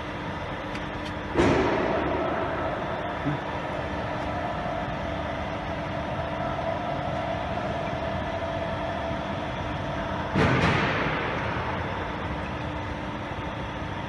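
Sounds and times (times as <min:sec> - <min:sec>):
lathe running with steady hum: 0:00.0 - 0:14.0.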